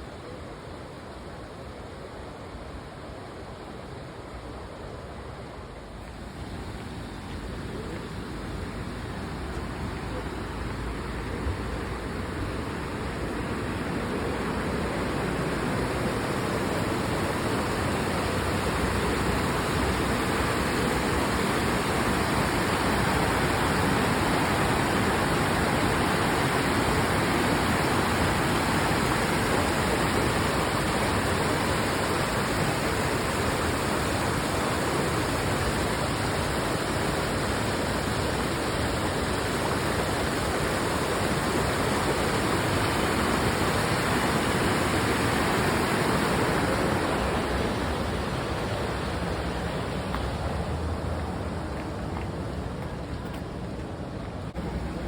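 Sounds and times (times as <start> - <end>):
waterfall rushing: 3.6 - 55.0.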